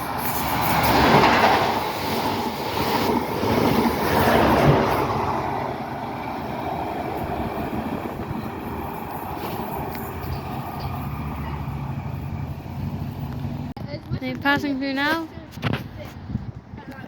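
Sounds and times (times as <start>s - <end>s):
train passing with rumble: 0.0s - 15.5s.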